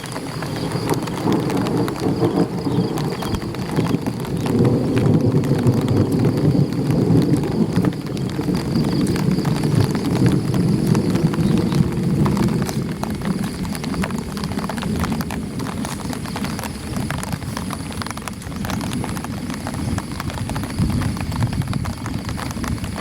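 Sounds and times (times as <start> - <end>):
rain drumming on umbrella: 0.0 - 23.0.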